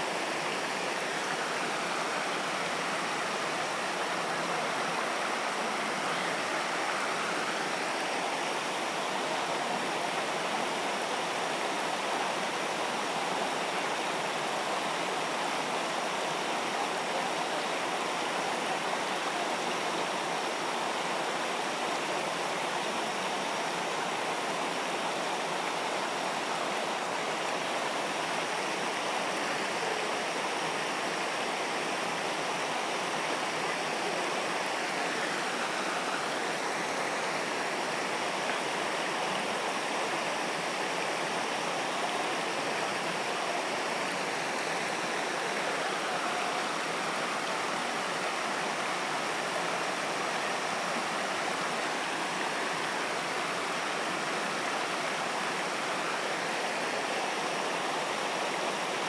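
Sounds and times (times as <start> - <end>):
stream flowing over stones: 0.0 - 59.0.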